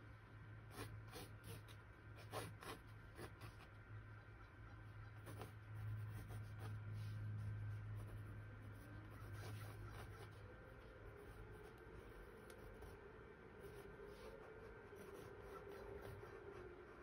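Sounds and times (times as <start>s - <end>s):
low steady hum: 0.0s - 17.0s
paintbrush scratching on canvas: 0.7s - 3.7s, 5.0s - 17.0s.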